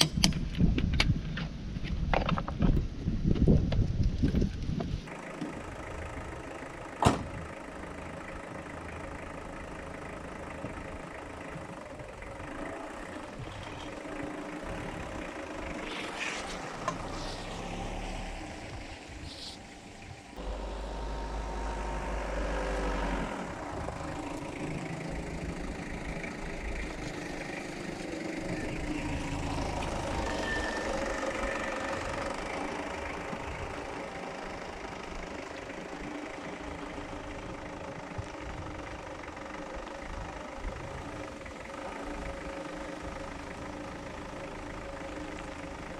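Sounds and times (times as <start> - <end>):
diesel engine idling with clatter: 0.0 - 45.9
diesel engine starting: 5.1 - 45.9.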